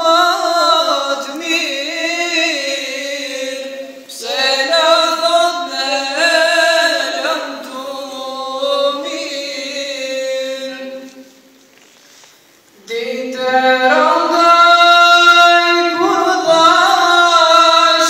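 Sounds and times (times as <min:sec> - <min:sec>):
man singing unaccompanied: 0:00.0 - 0:11.3, 0:12.8 - 0:18.0.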